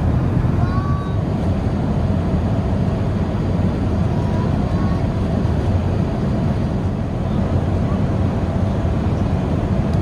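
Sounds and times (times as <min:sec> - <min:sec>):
airplane engines rumbling: 0:00.0 - 0:10.0.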